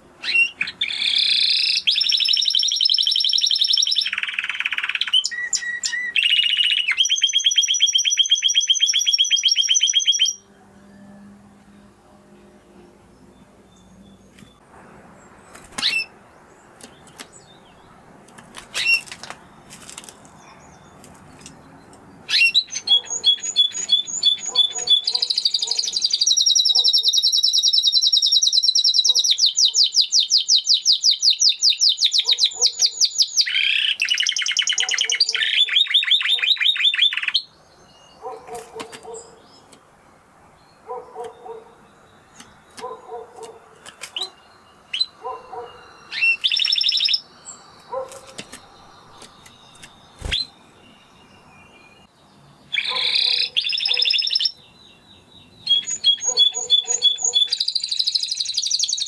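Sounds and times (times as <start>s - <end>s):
canary chirps: 0.2s - 11.1s, 15.2s - 59.0s
canary singing fast high trills: 0.2s - 11.1s, 15.5s - 18.0s, 22.2s - 39.7s, 40.5s - 59.0s.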